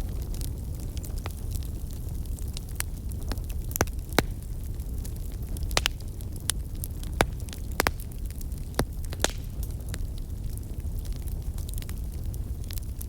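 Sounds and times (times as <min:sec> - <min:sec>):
burning wood popping: 0:00.0 - 0:13.0
campfire crackling: 0:00.0 - 0:13.0
low rumble of wind: 0:00.0 - 0:13.0.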